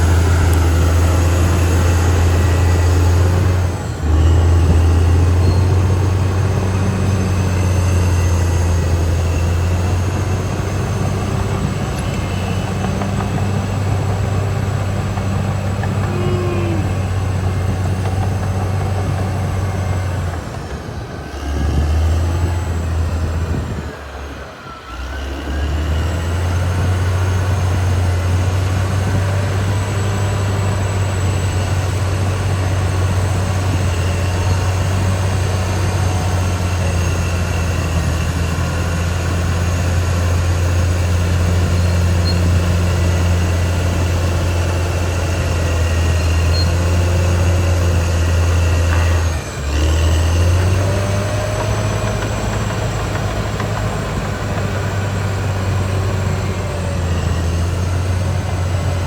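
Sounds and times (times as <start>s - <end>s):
bulldozer diesel engine humming: 0.0s - 59.0s.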